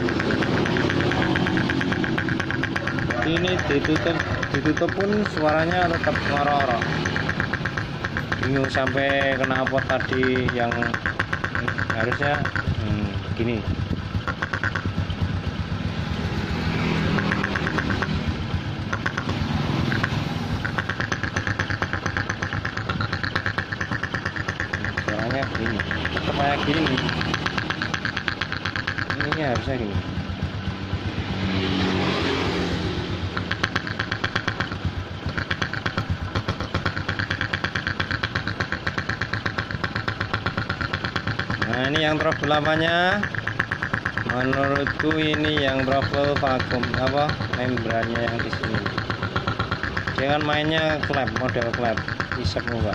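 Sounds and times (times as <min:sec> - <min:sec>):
motorcycle engine idling roughly: 0:00.0 - 0:52.9.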